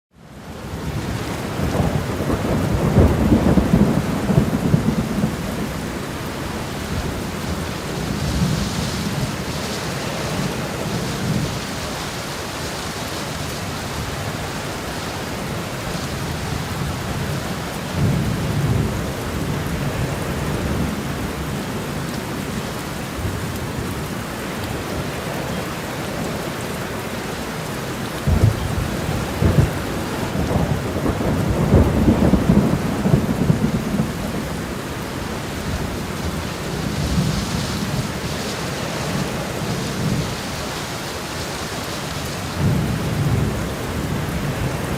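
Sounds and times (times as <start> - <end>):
heavy rain: 0.1 - 44.9
thunder rumbling: 0.6 - 12.0, 13.8 - 22.6, 28.2 - 41.4, 42.2 - 44.9.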